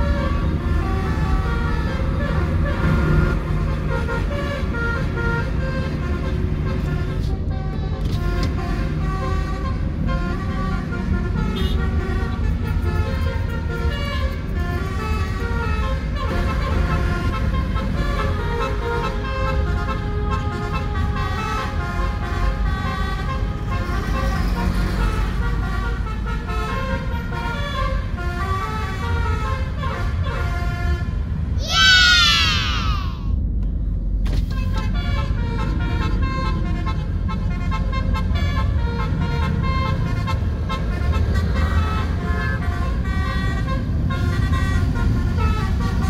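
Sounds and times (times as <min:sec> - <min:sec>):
bus horn playing a tune: 0:00.0 - 0:31.5, 0:34.4 - 0:46.0
traffic rumble: 0:00.0 - 0:46.0.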